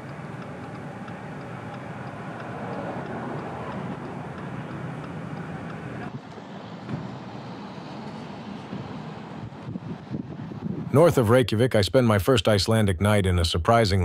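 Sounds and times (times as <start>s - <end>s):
steady rushing noise: 0.0s - 11.3s.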